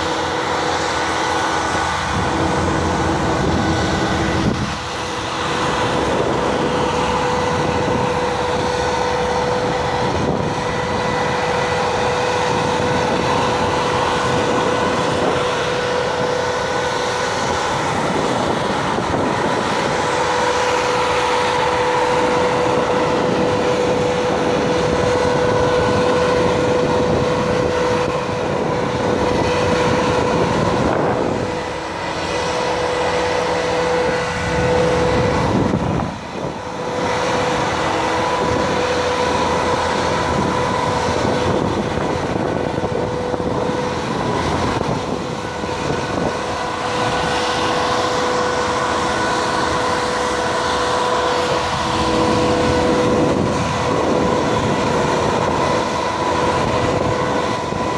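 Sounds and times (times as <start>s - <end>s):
heavy machinery rumble: 0.0s - 57.9s
high machinery whine: 0.0s - 57.9s.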